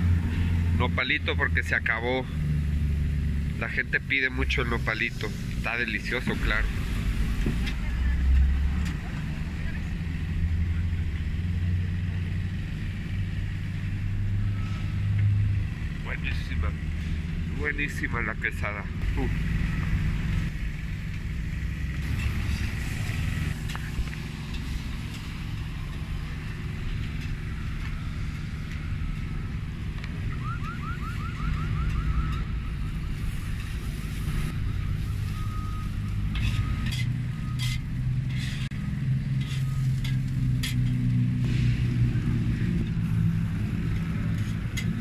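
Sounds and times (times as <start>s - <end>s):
street traffic hum: 0.0s - 45.0s.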